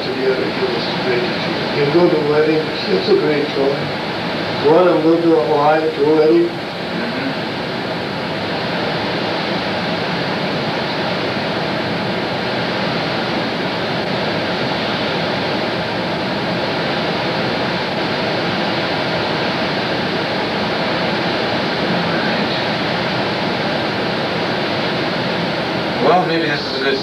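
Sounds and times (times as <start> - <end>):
steady video camera hiss: 0.0 - 27.0.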